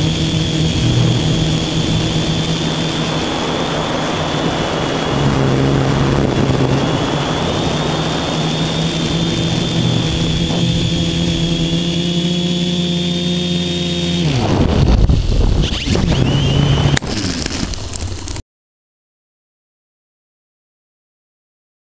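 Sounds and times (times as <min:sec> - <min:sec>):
drone motors humming: 0:00.0 - 0:18.4
rough rushing noise: 0:00.0 - 0:18.4.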